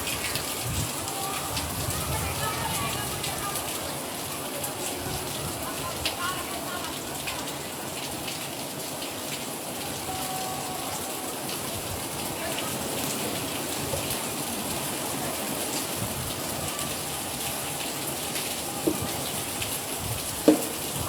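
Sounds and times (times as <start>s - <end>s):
raindrops ticking on surfaces: 0.0s - 21.0s
steady rain falling: 0.0s - 21.0s.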